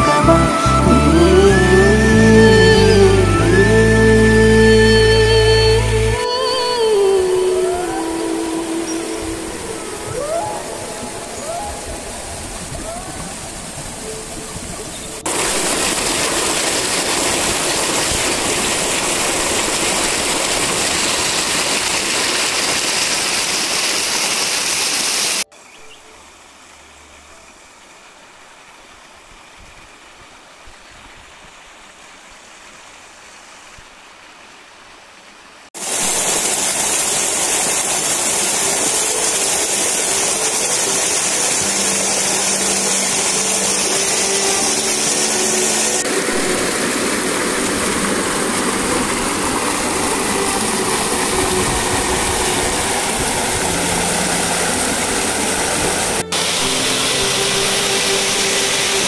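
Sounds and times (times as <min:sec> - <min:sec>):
waterfall rushing and splashing: 0:00.0 - 0:25.5, 0:26.2 - 0:59.0.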